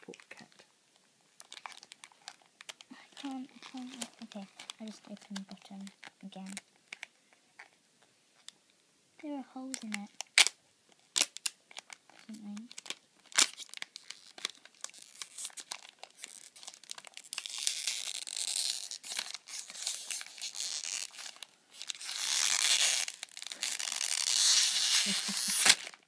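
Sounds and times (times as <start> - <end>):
gift wrapping crinkling and tearing: 0.0 - 0.6, 1.3 - 8.6, 9.3 - 26.0.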